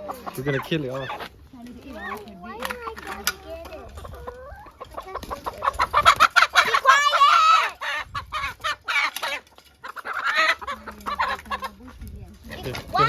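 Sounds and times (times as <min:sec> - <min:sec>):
chickens squawking and clucking: 0:00.0 - 0:13.0.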